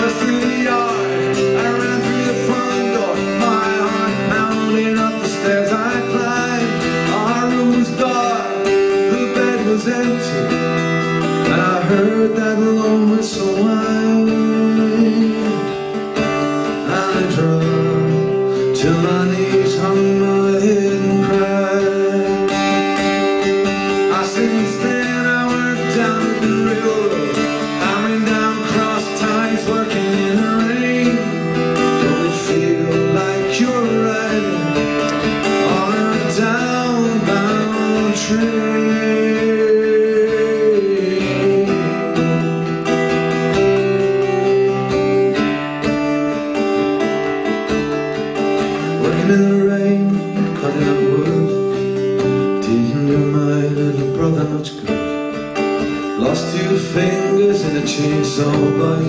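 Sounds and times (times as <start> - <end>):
acoustic guitar strummed and plucked: 0.0 - 59.0.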